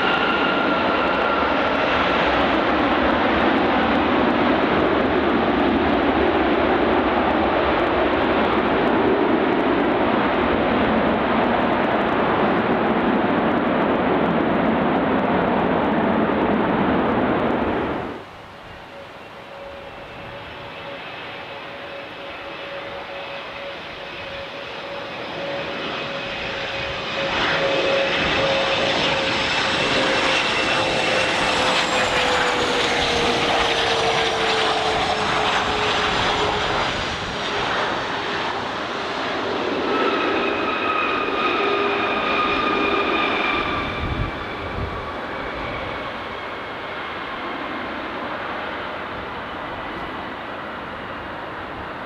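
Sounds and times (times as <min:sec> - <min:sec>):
jet engine whine and rumble: 0:00.0 - 0:52.0.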